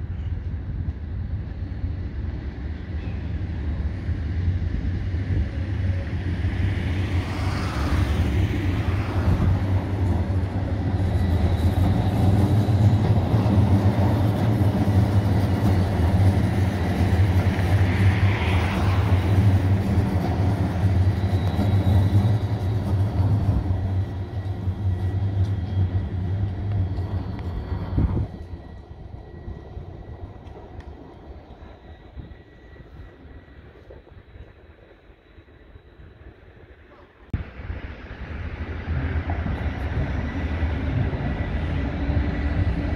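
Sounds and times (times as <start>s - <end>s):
train wheels rumbling on rails: 0.0s - 42.9s
train whine: 0.0s - 42.9s.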